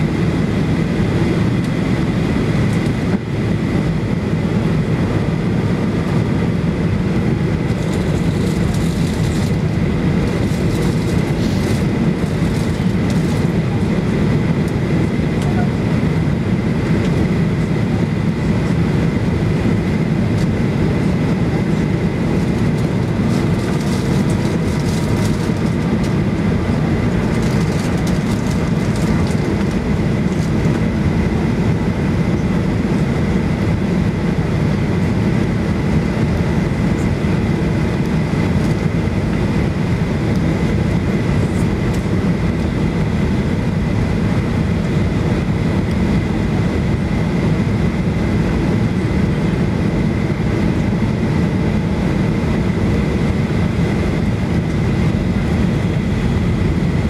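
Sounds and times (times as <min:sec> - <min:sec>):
airplane cabin roar: 0:00.0 - 0:57.0
thin steady whine: 0:00.0 - 0:57.0.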